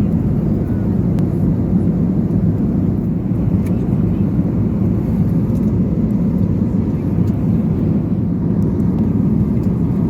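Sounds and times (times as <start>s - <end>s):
airplane cabin noise: 0.0s - 10.0s.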